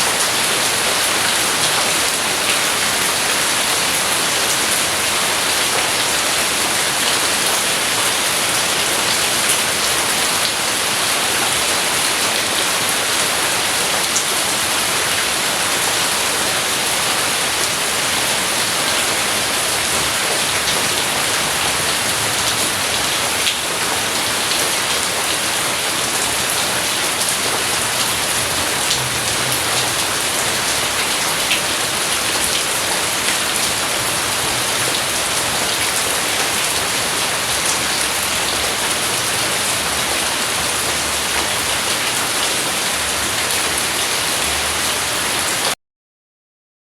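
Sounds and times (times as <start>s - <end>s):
steady rain falling: 0.0s - 45.8s.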